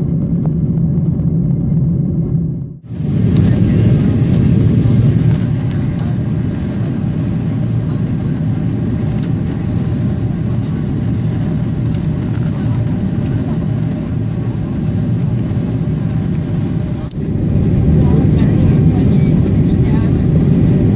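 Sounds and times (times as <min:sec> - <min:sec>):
aircraft rolling on ground: 0:00.0 - 0:20.9
jet engines rumbling in cabin: 0:00.0 - 0:20.9.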